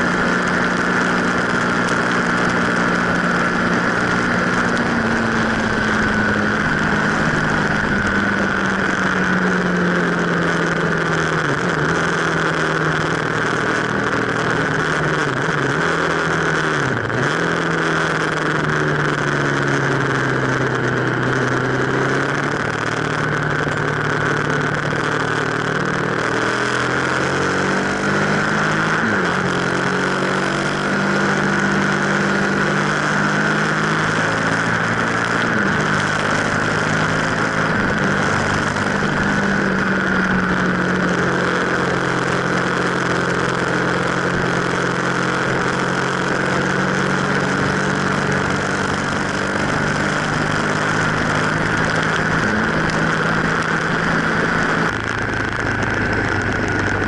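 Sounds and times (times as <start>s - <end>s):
motorcycle engine running at speed: 0.0s - 57.0s.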